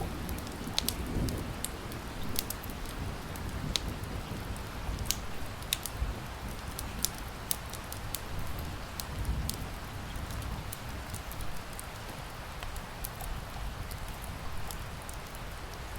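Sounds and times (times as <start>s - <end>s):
rain hissing: 0.0s - 15.9s
wood fire crackling and popping: 0.0s - 15.9s.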